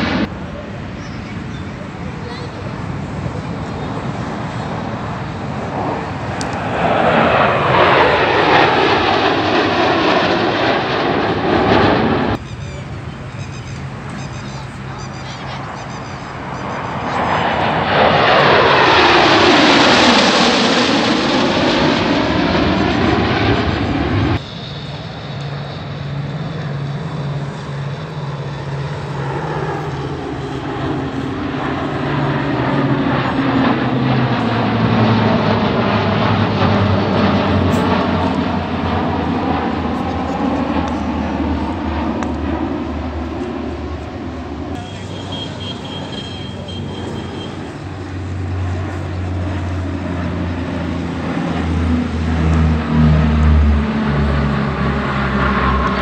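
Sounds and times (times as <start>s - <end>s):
jets flying low overhead: 0.0s - 56.0s
turboprop aircraft drone: 0.0s - 56.0s.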